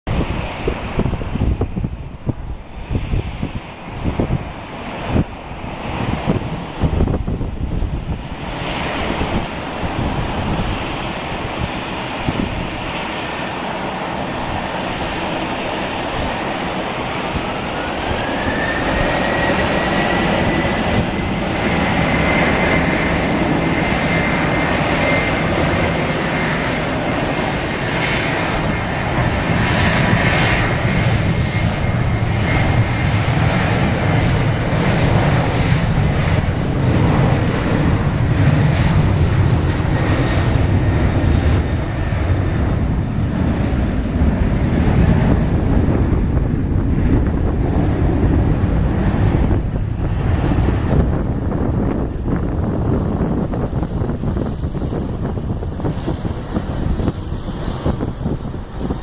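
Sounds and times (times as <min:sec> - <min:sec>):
jet engine whine: 0:00.0 - 0:59.0
jet engines rumbling: 0:00.0 - 0:59.0.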